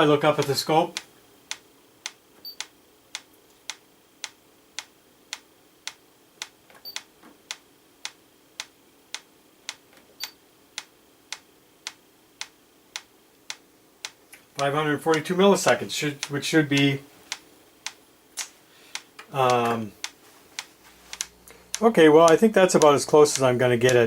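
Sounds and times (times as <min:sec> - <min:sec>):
metronome ticking: 0:00.3 - 0:09.3, 0:10.8 - 0:24.0.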